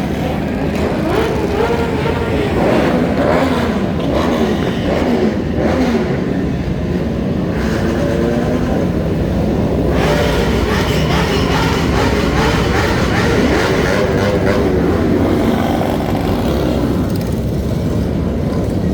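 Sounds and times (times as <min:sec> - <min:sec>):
motorcycle engines revving: 0:00.0 - 0:18.9.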